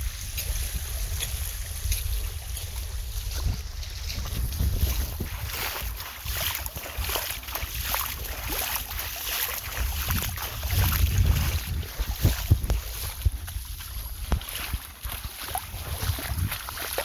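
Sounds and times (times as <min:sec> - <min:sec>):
wind rumbling on microphone: 0:00.0 - 0:17.0
water splashing: 0:00.2 - 0:17.0.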